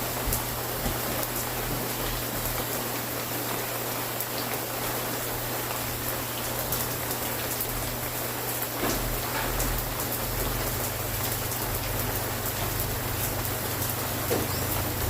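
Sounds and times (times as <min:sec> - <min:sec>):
rain falling on a surface: 0:00.0 - 0:15.0.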